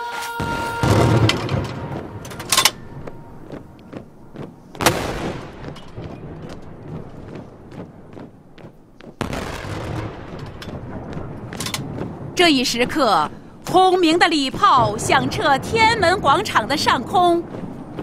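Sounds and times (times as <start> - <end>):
cannon booms echoing: 0.4 - 8.6, 9.2 - 17.1.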